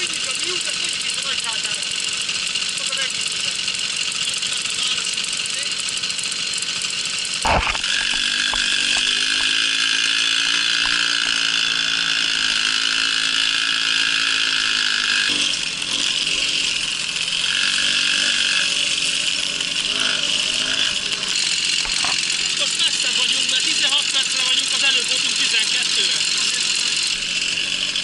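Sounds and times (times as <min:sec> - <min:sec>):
moped two-stroke engine running: 0:00.0 - 0:28.0.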